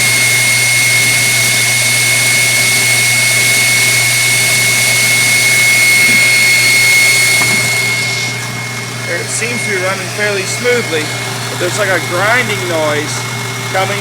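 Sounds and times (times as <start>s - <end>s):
motor grinding noise: 0.0s - 14.0s
stand mixer motor whining: 0.0s - 14.0s.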